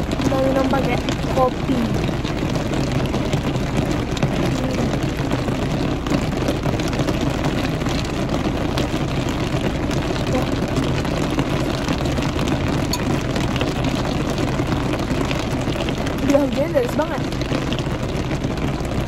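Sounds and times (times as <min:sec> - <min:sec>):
heavy rain on car roof: 0:00.0 - 0:19.0.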